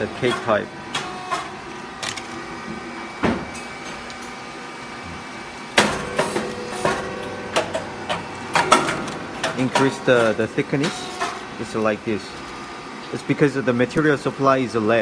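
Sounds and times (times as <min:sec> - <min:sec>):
popping machine mechanical hum: 0:00.0 - 0:15.0.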